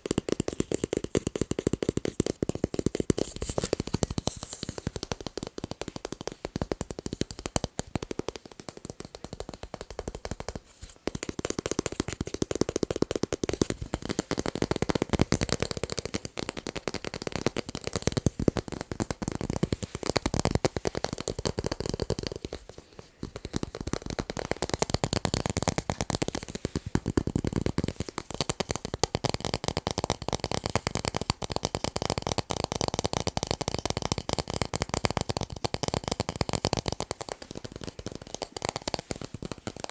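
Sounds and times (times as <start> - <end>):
finger tapping on tape: 0.0 - 39.9.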